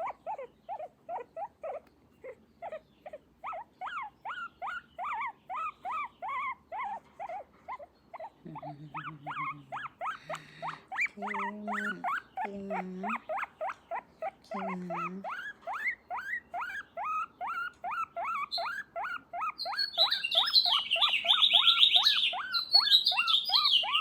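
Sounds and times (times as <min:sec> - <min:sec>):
dog whining squeakily: 0:00.0 - 0:12.5, 0:13.1 - 0:24.0.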